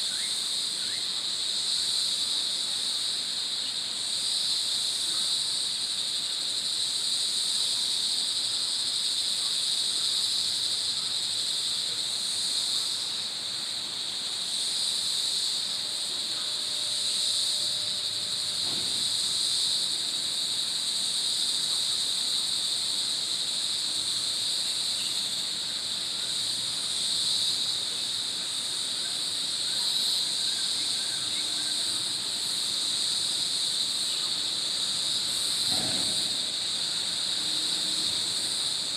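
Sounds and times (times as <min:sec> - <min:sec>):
insect chorus buzzing: 0:00.0 - 0:38.9.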